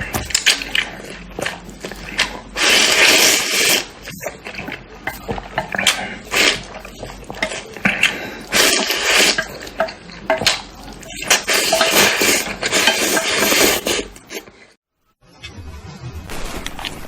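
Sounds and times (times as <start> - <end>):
utensils clicking against dish: 0.0 - 14.6.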